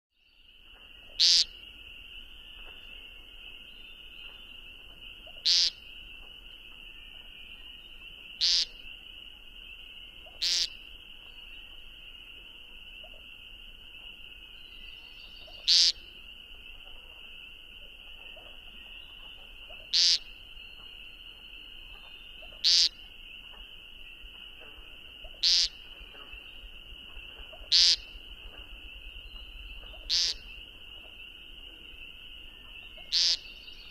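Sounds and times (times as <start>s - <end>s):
night insects or frogs chorus: 0.2s - 33.9s.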